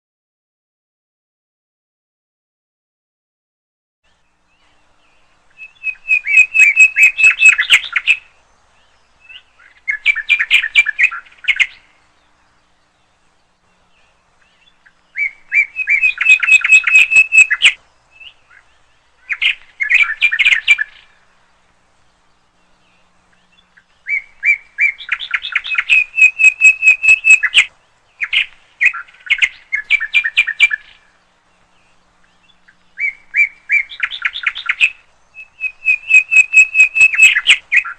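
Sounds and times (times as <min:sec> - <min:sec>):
songbird chirping: 0:04.0 - 0:37.9.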